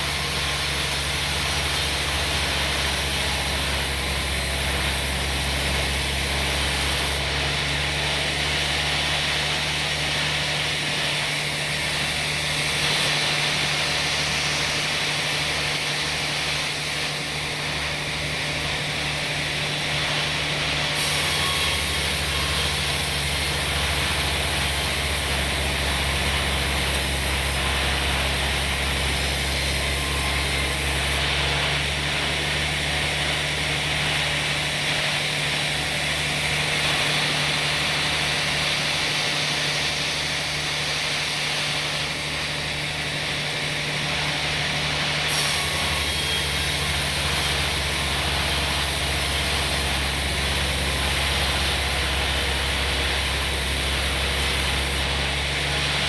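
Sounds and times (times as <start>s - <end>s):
hissing saw: 0.0s - 7.4s, 9.6s - 56.0s.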